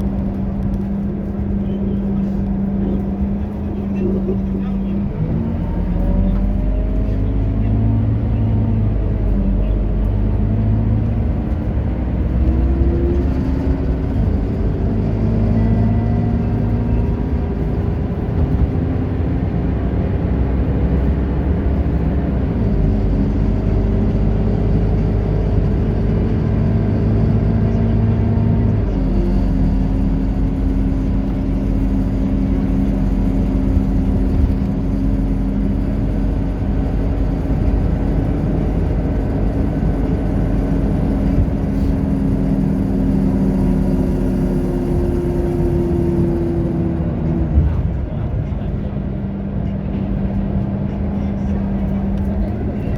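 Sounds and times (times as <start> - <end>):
bus diesel engine drone: 0.0 - 52.9.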